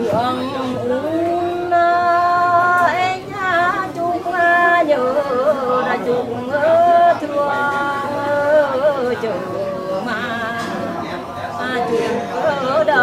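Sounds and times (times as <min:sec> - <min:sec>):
woman singing folk song: 0:00.0 - 0:11.0, 0:11.6 - 0:13.0.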